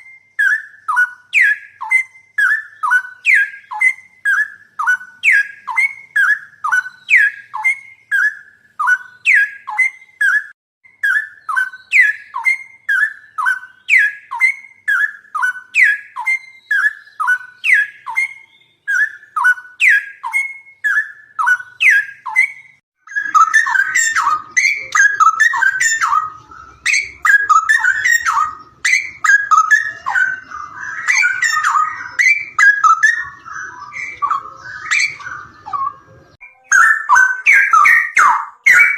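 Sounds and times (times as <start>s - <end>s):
songbird singing whistled notes: 0.0s - 38.9s.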